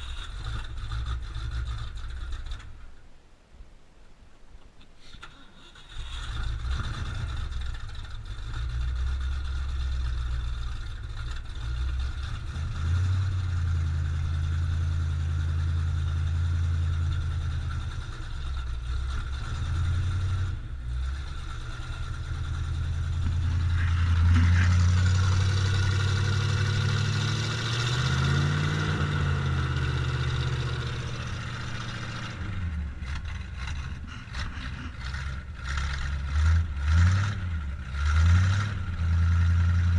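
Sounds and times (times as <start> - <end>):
engine revving: 0.0 - 2.7, 5.2 - 39.9
car engine starting and idling: 0.0 - 3.1, 5.0 - 39.9.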